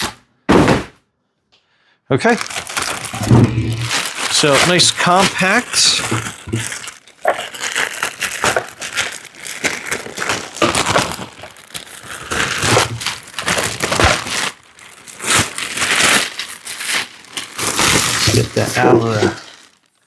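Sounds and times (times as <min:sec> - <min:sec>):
packaging crinkling and rustling: 0:02.2 - 0:20.0.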